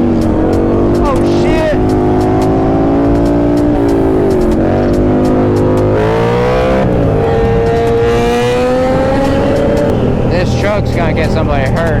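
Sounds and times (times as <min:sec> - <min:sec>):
vehicle engines revving: 0:00.0 - 0:12.0.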